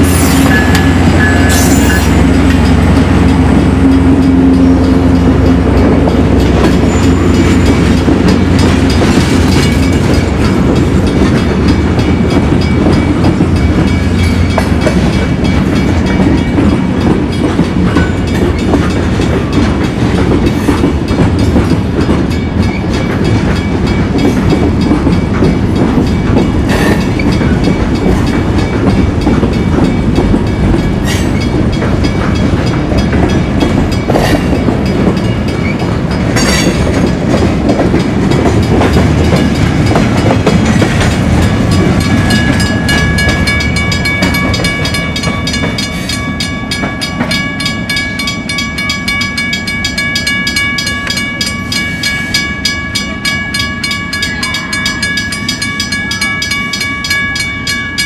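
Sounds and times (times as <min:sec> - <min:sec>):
diesel locomotive engine running: 0:00.0 - 0:58.0
train wheels clacking on rails: 0:00.0 - 0:58.0.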